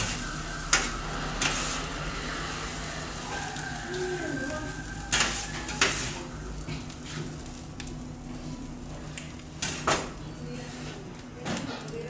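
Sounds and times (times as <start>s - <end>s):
metal spatula scraping griddle: 0.0s - 7.5s, 8.3s - 12.0s
faint sizzle: 0.0s - 12.0s.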